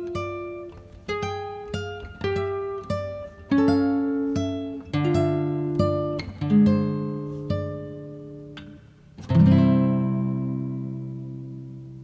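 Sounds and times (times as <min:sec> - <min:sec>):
guitar chord strummed: 0:00.0 - 0:12.0
plucked guitar notes: 0:00.0 - 0:12.0.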